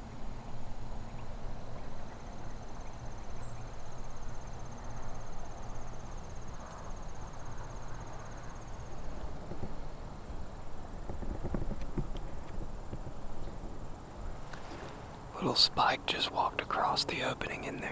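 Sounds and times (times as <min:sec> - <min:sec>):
low background rumble: 0:00.0 - 0:17.9.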